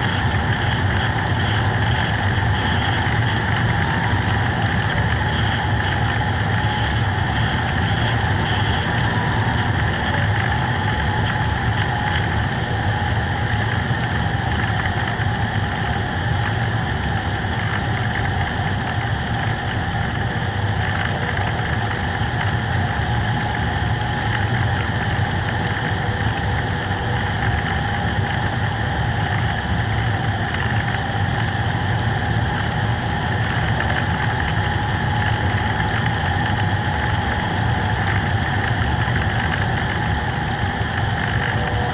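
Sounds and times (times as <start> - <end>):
model plane motor whine: 0.0 - 41.9.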